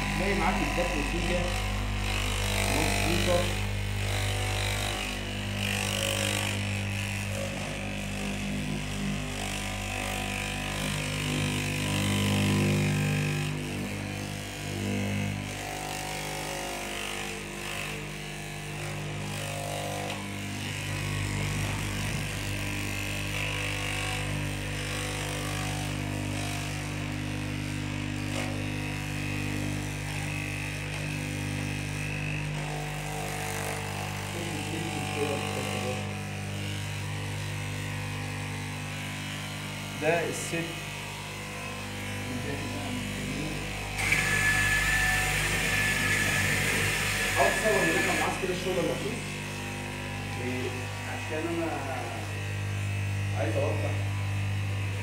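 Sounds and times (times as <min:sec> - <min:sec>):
cloth-cutting machine running: 0:00.0 - 0:55.0.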